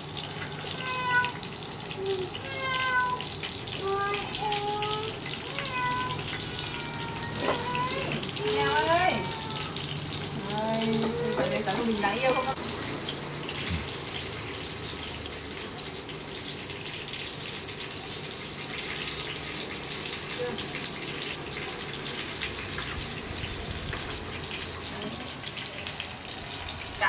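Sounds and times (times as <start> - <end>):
food sizzling in oil: 0.0 - 27.0.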